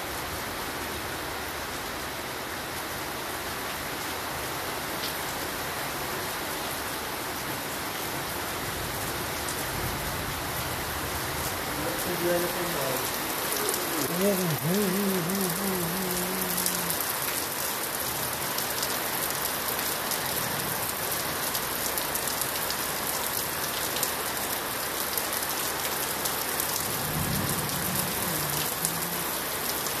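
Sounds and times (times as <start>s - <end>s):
heavy rain on earth and foliage: 0.0s - 30.0s.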